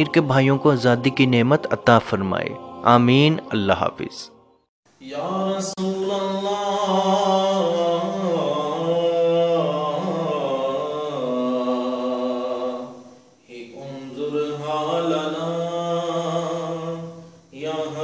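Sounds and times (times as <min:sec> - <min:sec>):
vocal chanting with held notes: 0:00.0 - 0:18.0.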